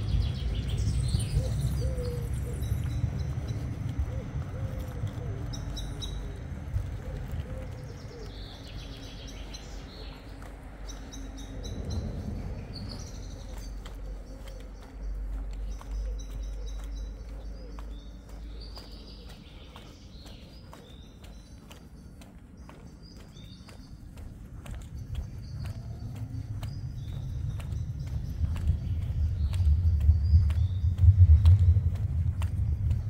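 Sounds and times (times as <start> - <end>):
birds chirping: 0.0 - 33.0
low city hum: 0.0 - 33.0.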